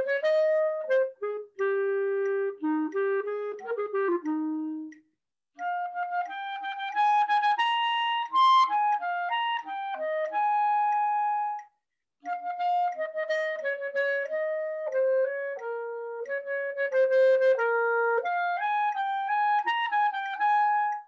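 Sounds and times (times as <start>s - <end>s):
clarinet playing short notes: 0.0s - 5.0s, 5.6s - 21.0s.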